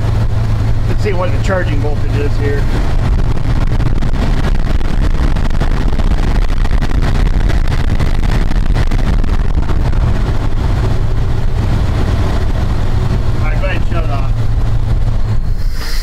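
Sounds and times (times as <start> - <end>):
pickup engine running: 0.0 - 16.0.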